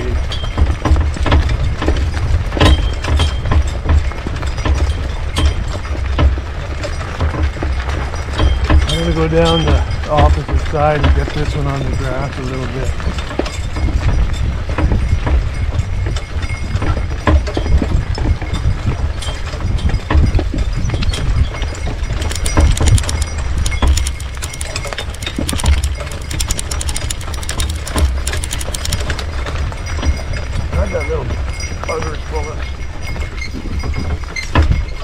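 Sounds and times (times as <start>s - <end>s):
harness clinking: 0.0s - 35.0s
hooves clopping: 0.0s - 35.0s.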